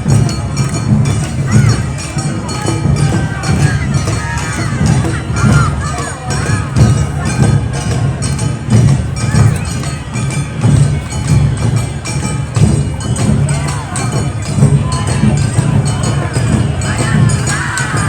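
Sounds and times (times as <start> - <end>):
taiko drums beating: 0.0 - 18.0.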